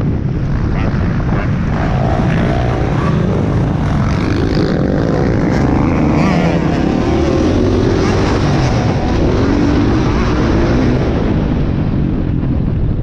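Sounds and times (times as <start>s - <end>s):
other dirt bikes running: 0.0s - 13.0s
dirt bike engine revving: 0.4s - 11.5s.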